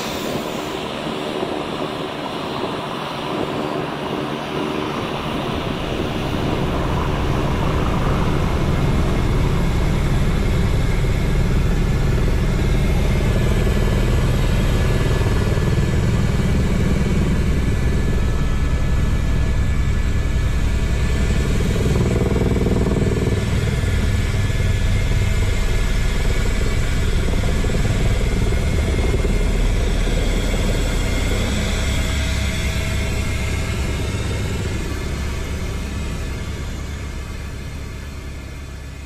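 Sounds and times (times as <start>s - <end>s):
helicopter rotor and turbine: 0.0s - 39.0s.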